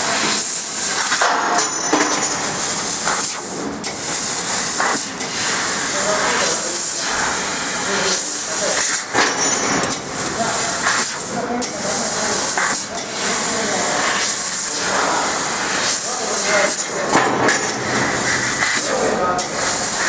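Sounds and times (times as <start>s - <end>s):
hiss of laser cutter gas: 0.0s - 9.3s, 9.9s - 20.0s.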